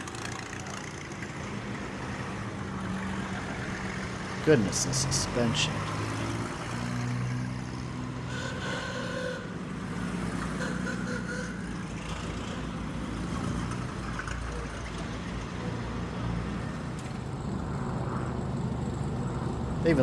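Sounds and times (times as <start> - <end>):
old race car engines running: 0.0 - 20.0.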